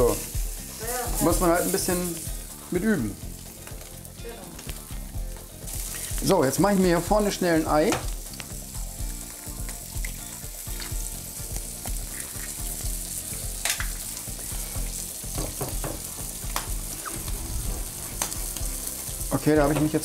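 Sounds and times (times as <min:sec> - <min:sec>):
food sizzling on griddle: 0:00.0 - 0:20.0.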